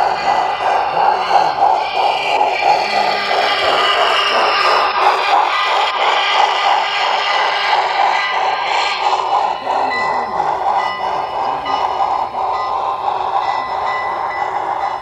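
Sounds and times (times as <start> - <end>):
model train wheels clattering: 0.0 - 15.0.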